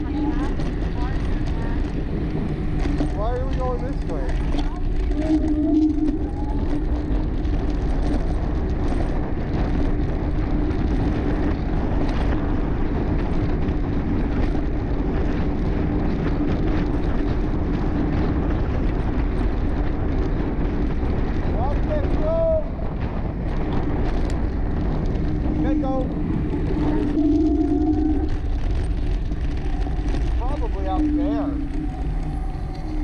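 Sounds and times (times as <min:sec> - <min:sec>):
steady low hum: 0:00.0 - 0:33.0
tyre rumble on asphalt: 0:00.0 - 0:33.0
wind noise on microphone: 0:00.0 - 0:33.0.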